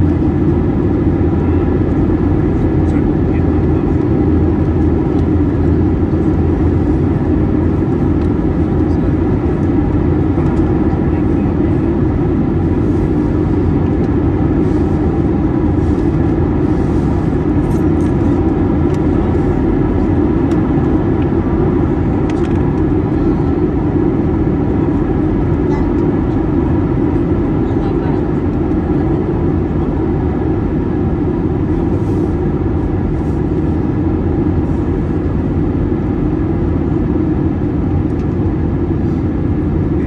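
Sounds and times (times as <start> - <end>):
aircraft cabin engine rush: 0.0 - 40.0
faint steady whines: 0.0 - 40.0.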